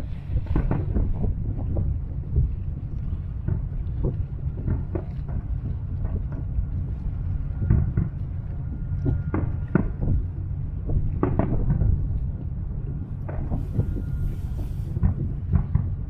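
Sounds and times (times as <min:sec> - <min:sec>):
distant fireworks bangs: 0:00.0 - 0:02.6, 0:03.4 - 0:12.2, 0:13.0 - 0:16.0
wind rumble on microphone: 0:00.0 - 0:16.0.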